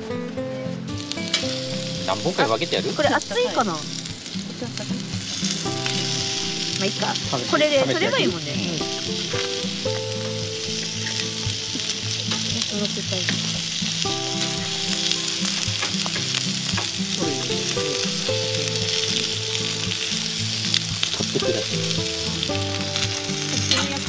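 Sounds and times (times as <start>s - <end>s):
background music held notes: 0.0s - 24.0s
meat sizzling on a grill: 0.9s - 24.0s.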